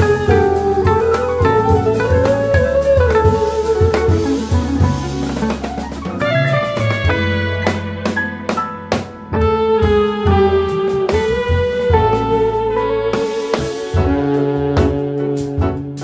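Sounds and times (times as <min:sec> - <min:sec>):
bass: 0:00.0 - 0:16.0
electric guitar: 0:00.0 - 0:16.0
jazz band playing: 0:00.0 - 0:16.0
jazz drum kit: 0:00.0 - 0:16.0.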